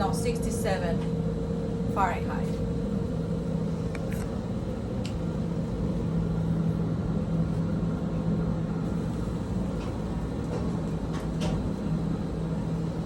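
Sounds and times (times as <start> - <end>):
hvac unit humming: 0.0 - 13.0.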